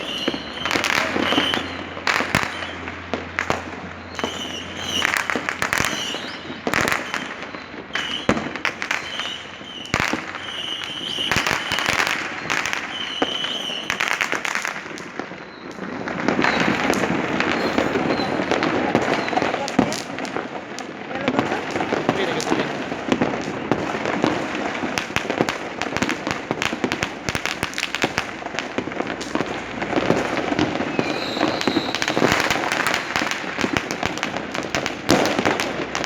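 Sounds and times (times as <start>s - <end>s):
firecrackers crackling: 0.0s - 36.0s
fireworks bangs and pops: 0.0s - 36.0s
fireworks whistles: 0.0s - 36.0s.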